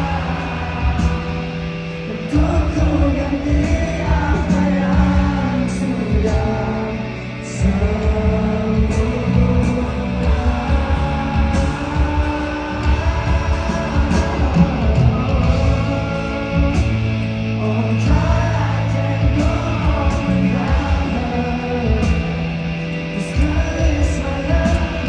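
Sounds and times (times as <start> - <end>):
bass: 0.0 - 25.0
drums: 0.0 - 25.0
guitars: 0.0 - 25.0
person singing: 0.0 - 25.0.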